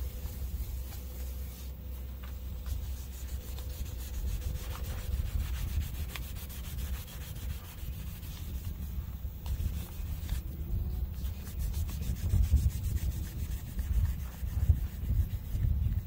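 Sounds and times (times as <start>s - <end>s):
cloth rubbing on brass: 0.0s - 10.5s, 11.2s - 16.0s.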